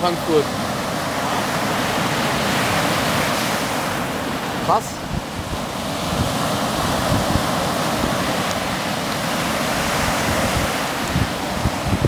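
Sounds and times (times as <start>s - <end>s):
surf washing up beach: 0.0s - 12.0s
wind buffeting microphone: 0.0s - 12.0s.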